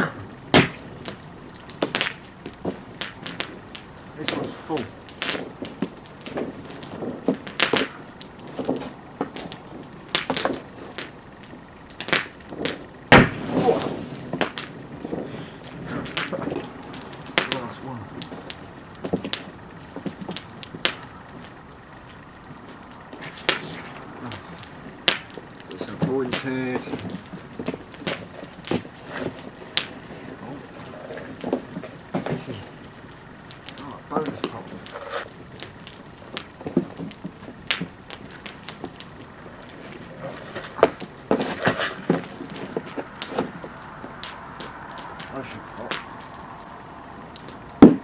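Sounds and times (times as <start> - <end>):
fire crackling: 0.0 - 48.0.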